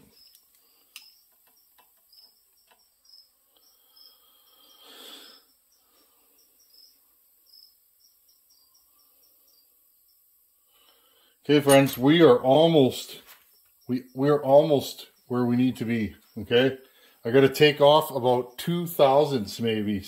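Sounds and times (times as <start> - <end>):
cricket chirping: 0.0 - 11.4, 12.6 - 19.7.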